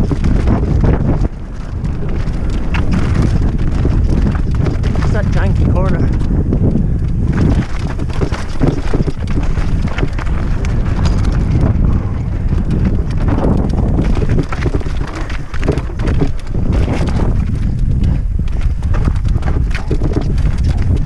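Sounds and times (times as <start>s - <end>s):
bike rattling: 0.0s - 21.0s
tyres crunching over stones: 0.0s - 21.0s
wind rumble on microphone: 0.0s - 21.0s.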